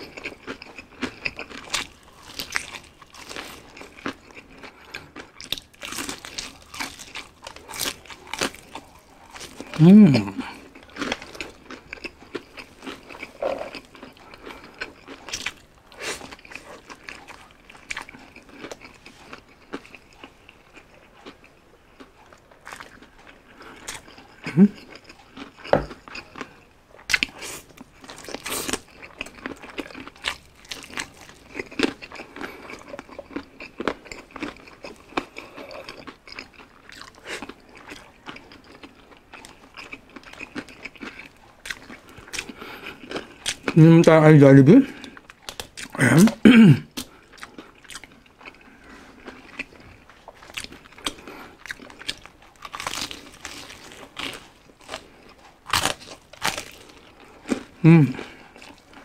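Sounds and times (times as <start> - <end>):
crunching and chewing fried chicken: 0.0 - 59.0.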